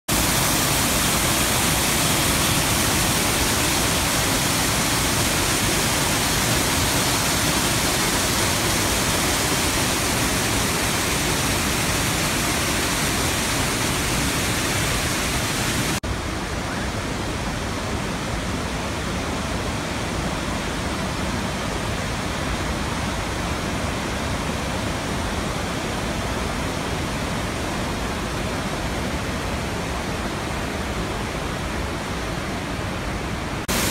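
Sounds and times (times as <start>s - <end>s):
waterfall rushing over rocks: 0.1s - 33.9s.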